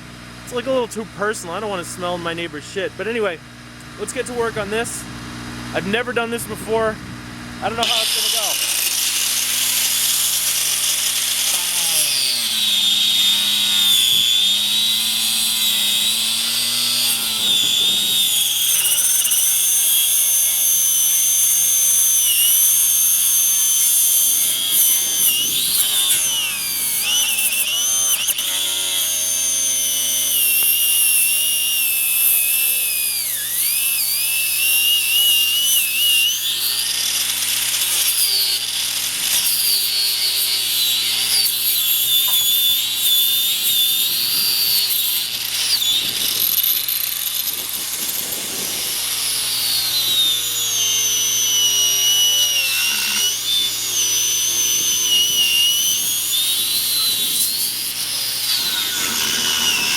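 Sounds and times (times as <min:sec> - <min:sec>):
angle grinder cutting rubber: 0:07.6 - 0:59.9.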